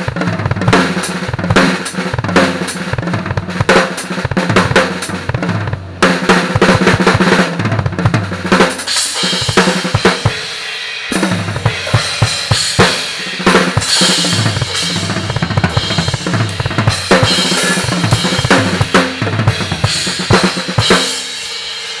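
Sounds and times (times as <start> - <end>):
drum kit played hard: 0.0 - 22.0.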